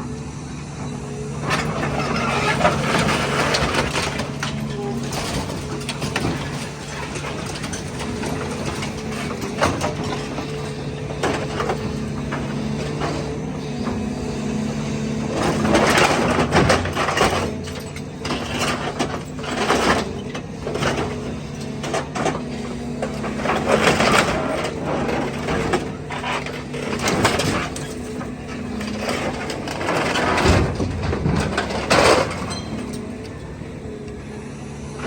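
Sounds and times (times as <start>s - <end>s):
diesel engine running: 0.0s - 35.0s
scrap metal crunching and scraping: 0.7s - 35.0s.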